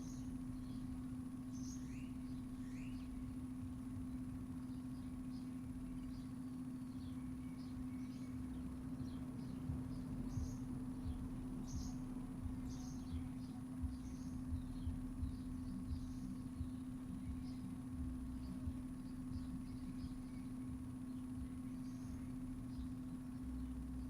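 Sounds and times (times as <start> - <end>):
faint low rumble: 0.0 - 24.0
low mechanical hum: 0.0 - 24.0
small birds chirping: 0.0 - 24.0.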